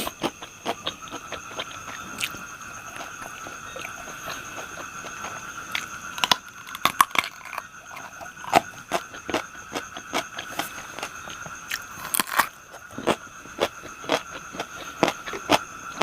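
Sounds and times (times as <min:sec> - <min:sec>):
chewing and crunching food: 0:00.0 - 0:16.0
high insect-like drone: 0:00.0 - 0:16.0.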